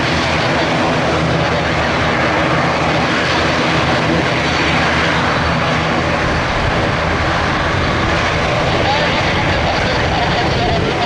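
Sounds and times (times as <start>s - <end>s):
turboprop engines running: 0.0s - 11.0s.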